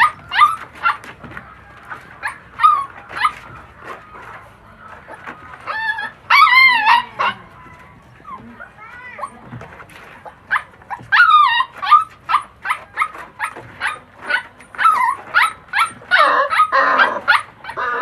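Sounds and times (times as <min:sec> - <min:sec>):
puppies yipping and barking: 0:00.0 - 0:18.0.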